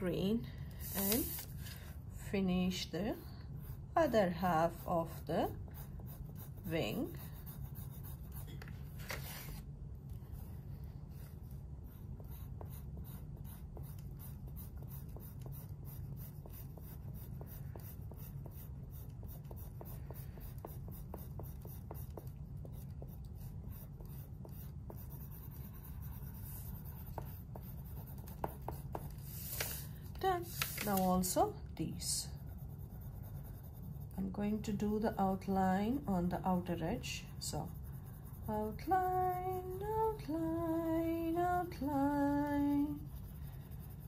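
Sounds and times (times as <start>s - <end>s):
steady low hum: 0.0s - 44.0s
pencil scratching on paper: 2.8s - 9.6s, 10.4s - 40.8s, 41.7s - 44.0s.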